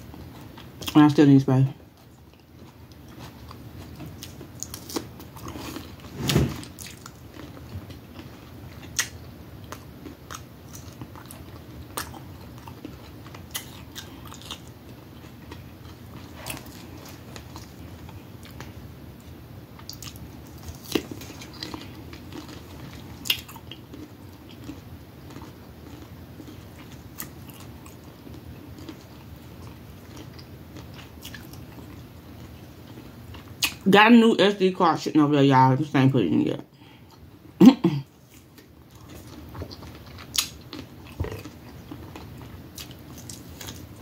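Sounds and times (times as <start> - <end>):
chewing cucumber crunches: 2.0 - 18.7, 19.8 - 33.8, 38.2 - 44.0.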